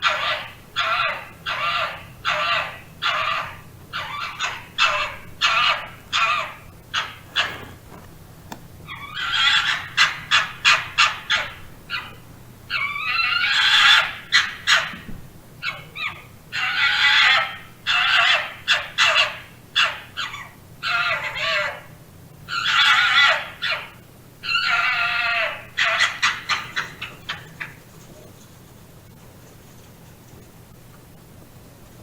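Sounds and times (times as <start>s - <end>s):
fox crying and yapping: 0.0s - 8.0s, 8.8s - 15.0s, 15.6s - 21.9s, 22.5s - 28.3s.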